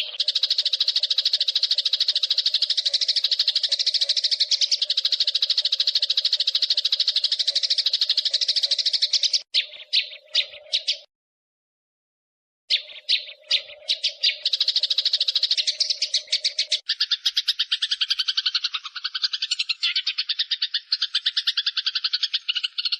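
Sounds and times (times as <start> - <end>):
sparrows chirping: 0.0 - 11.1, 12.7 - 22.9.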